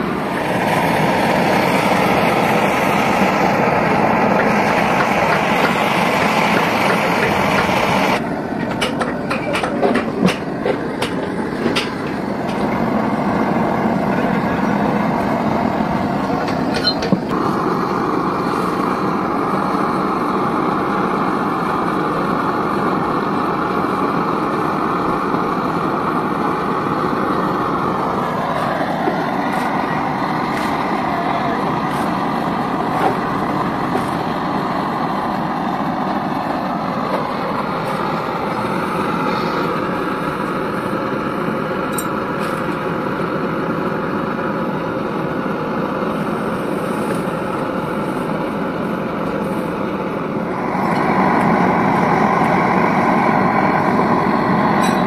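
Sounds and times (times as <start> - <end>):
gas torch rushing: 0.0 - 43.1, 45.3 - 55.0.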